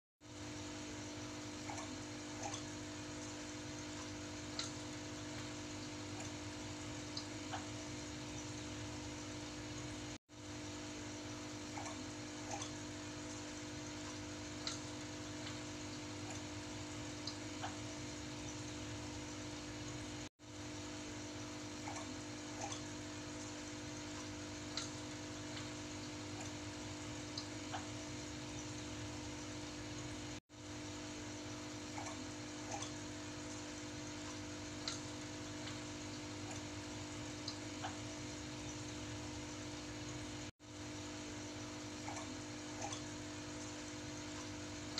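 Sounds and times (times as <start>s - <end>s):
aquarium equipment hum and hiss: 0.2s - 44.9s
small water drips: 0.4s - 44.9s
water trickling: 0.4s - 44.9s.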